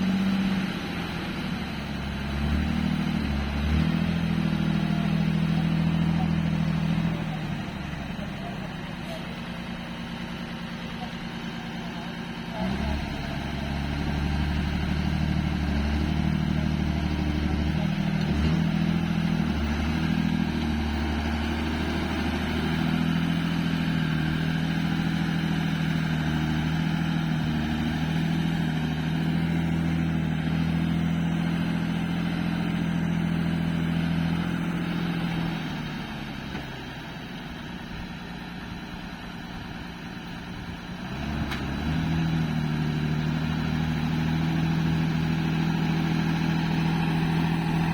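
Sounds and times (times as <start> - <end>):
truck engine running: 0.0 - 47.9.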